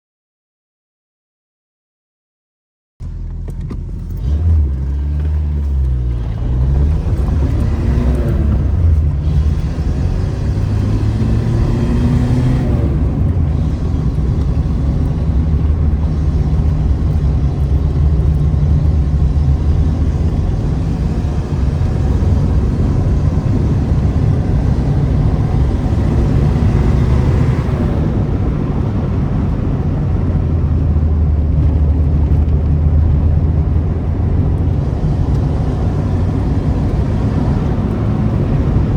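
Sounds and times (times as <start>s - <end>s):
car exhaust revving: 3.0s - 38.9s.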